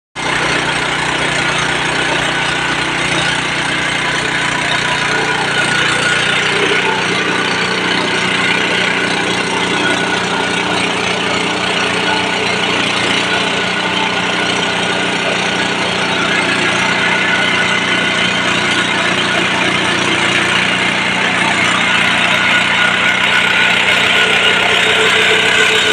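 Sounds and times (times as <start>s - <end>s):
rice milling machine drone: 0.2s - 25.9s.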